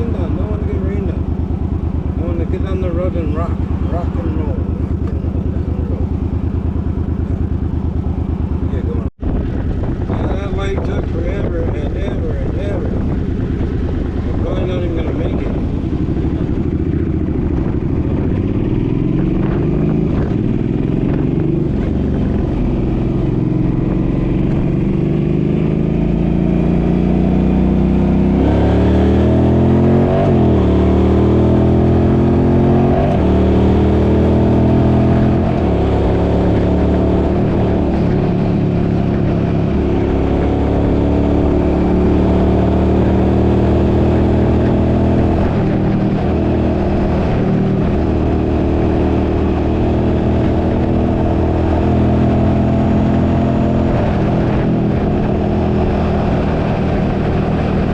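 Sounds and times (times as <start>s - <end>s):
engine accelerating: 0.0s - 57.9s
low wind rumble: 0.0s - 57.9s.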